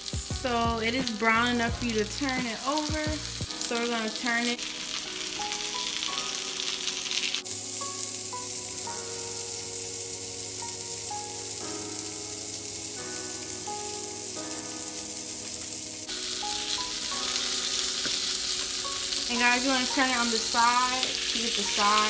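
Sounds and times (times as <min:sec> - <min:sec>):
fish sizzling in a pan: 0:00.0 - 0:22.0
soft background music: 0:00.0 - 0:22.0.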